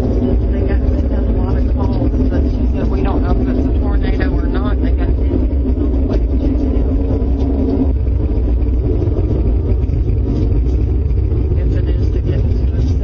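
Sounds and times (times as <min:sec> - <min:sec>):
deep rumble from the sky: 0:00.0 - 0:13.0.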